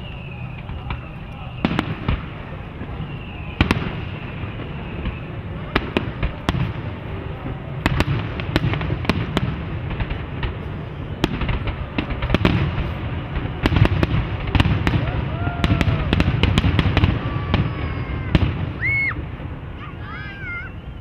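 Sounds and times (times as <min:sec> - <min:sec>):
fireworks bursting: 0:00.0 - 0:21.0
low background noise: 0:00.0 - 0:21.0.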